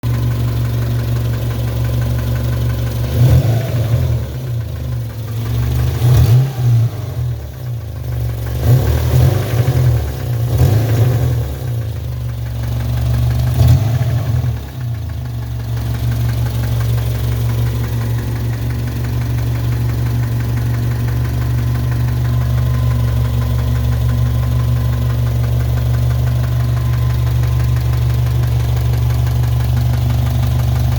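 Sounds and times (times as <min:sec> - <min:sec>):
car engine knocking and revving: 0:00.0 - 0:30.9.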